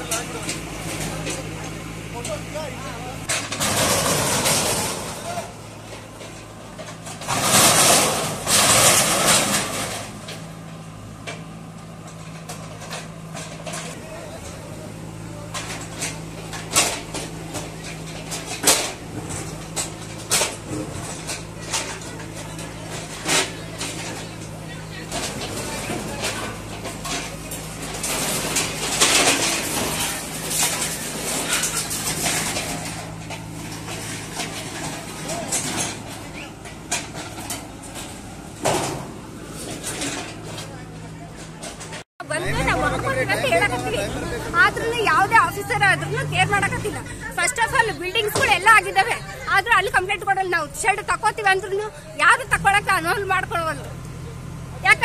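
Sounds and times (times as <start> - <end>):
diesel engine running: 0.0 - 55.0
rubble crashing and scraping: 0.0 - 55.0.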